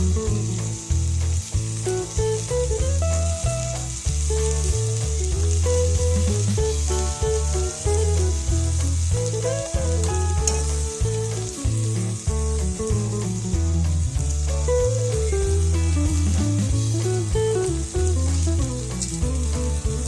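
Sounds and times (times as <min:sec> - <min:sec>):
background music with bass: 0:00.0 - 0:20.0
meat sizzling on grill: 0:00.0 - 0:20.0.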